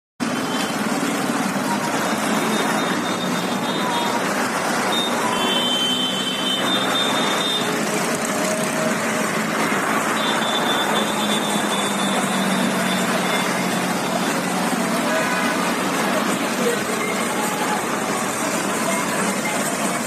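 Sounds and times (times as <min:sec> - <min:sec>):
tractors driving past: 0:00.2 - 0:20.0.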